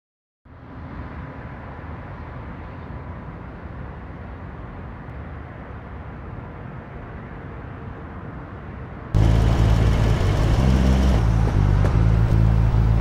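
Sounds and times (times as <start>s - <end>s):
distant city traffic rumble: 0.5s - 13.0s.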